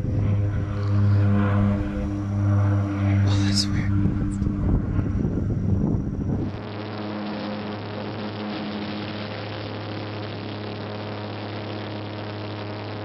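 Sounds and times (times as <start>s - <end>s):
loud rough sound: 0.0s - 13.0s
propeller airplane cabin drone: 0.0s - 13.0s.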